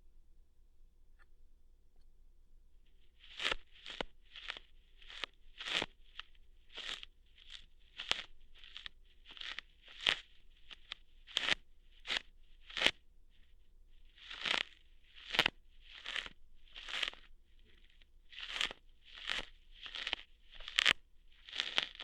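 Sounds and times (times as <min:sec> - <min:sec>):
hair plucking crackles: 0:03.1 - 0:13.0, 0:14.2 - 0:22.0.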